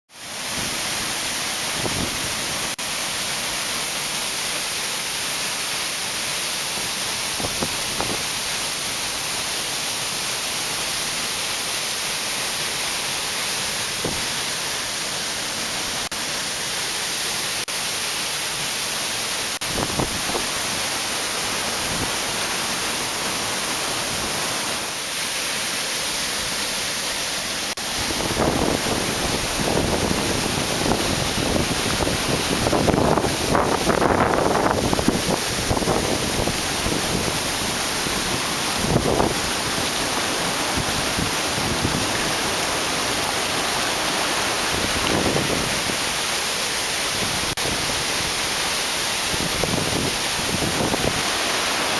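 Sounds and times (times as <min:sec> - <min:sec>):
fast-flowing stream rushing: 0:00.2 - 0:51.9.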